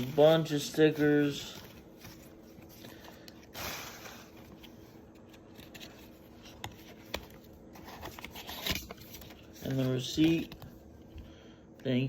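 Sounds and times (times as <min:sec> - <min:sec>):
paper rustling: 0:00.0 - 0:10.7.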